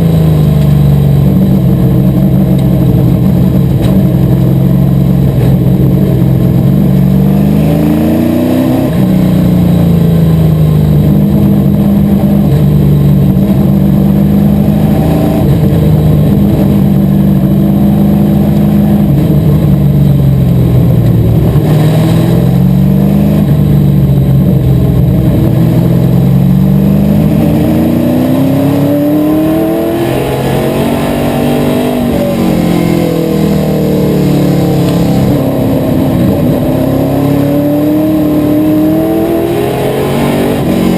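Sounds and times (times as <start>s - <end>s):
race car engine at speed: 0.0s - 40.9s.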